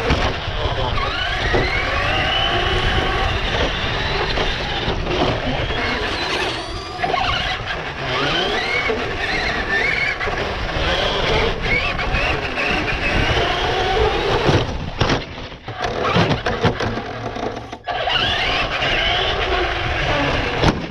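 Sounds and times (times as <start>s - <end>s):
electric motor whining: 0.0s - 20.9s
wind and rolling noise: 0.0s - 20.9s.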